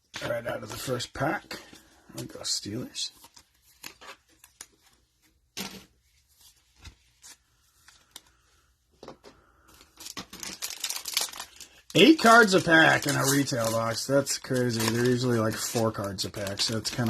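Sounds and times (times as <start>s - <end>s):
cards and foil wrappers rustling: 0.2s - 8.6s, 9.6s - 17.0s.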